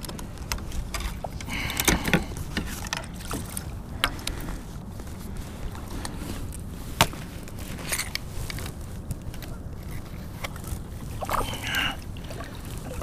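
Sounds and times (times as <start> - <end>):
light clicks and knocks on kayak: 0.0 - 13.0
steady low rumble: 0.0 - 13.0.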